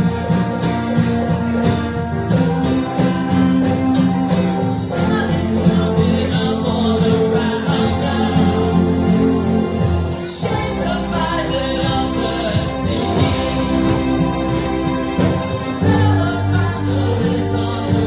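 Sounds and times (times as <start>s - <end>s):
guitar playing: 0.0s - 18.0s
people singing: 2.9s - 18.0s.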